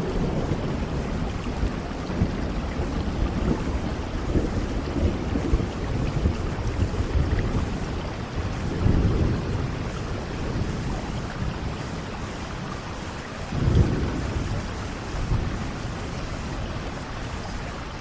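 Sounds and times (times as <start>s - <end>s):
low rolling thunder: 0.0s - 18.0s
steady rain: 0.0s - 18.0s.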